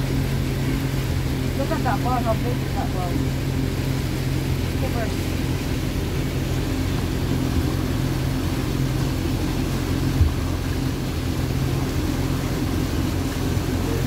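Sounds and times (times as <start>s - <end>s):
motorboat engine running: 0.0s - 14.0s
water noise: 0.0s - 14.0s
wind: 0.0s - 14.0s.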